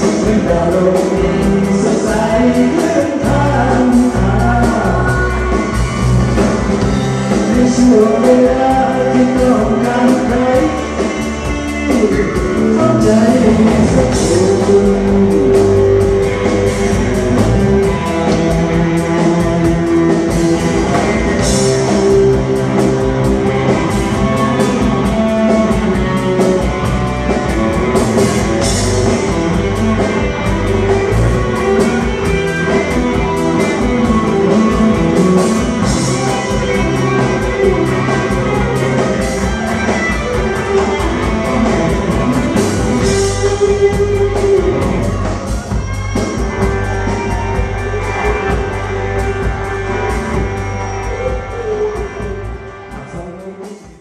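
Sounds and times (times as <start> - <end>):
drum kit steady beat: 0.0 - 54.0
guitar: 0.0 - 54.0.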